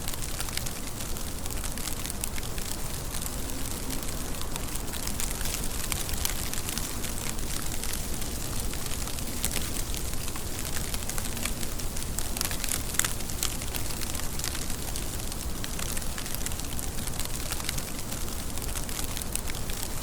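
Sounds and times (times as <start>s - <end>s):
sharp raindrop hits: 0.0s - 19.9s
rain falling: 0.0s - 20.0s.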